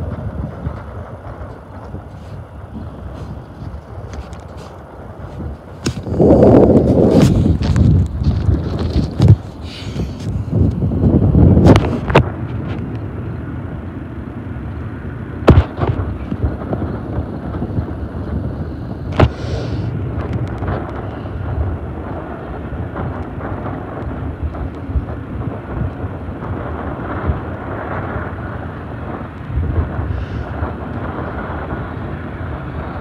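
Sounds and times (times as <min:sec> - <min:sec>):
distant freight train: 0:00.0 - 0:33.0
wind rumbling on microphone: 0:00.0 - 0:33.0.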